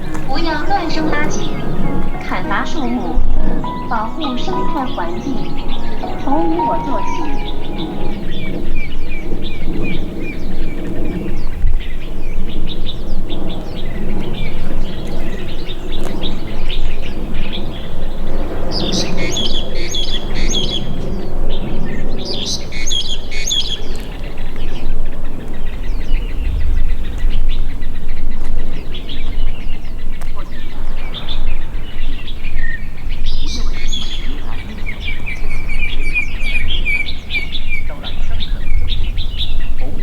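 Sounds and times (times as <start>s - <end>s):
birds chirping: 0.0s - 40.0s
outdoor background noise: 0.0s - 40.0s.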